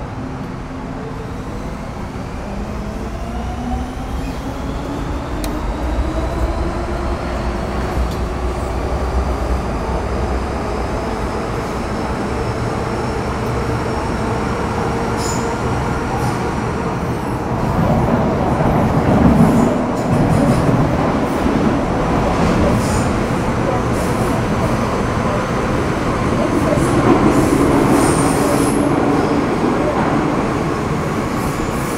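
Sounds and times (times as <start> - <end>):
train traction whine: 0.0 - 31.9.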